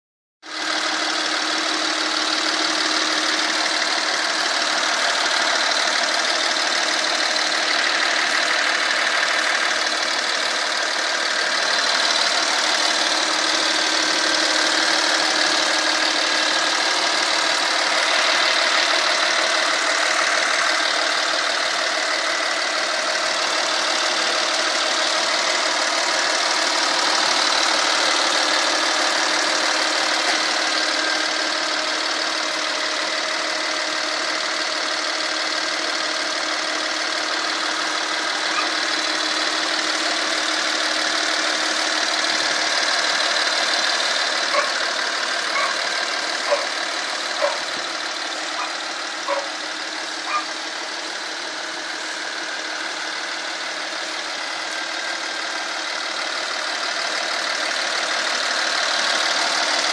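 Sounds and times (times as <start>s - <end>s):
diesel engine idling: 0.4s - 59.9s.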